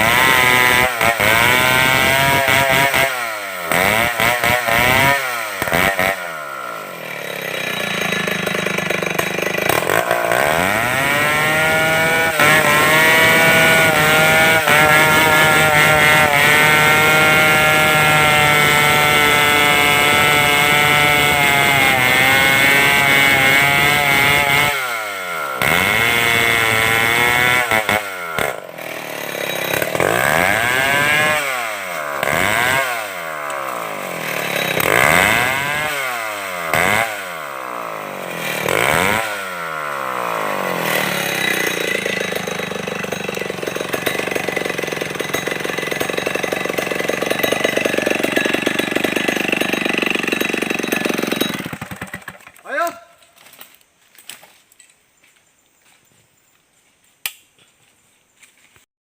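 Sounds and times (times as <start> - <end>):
chainsaw revving: 0.0 - 52.9.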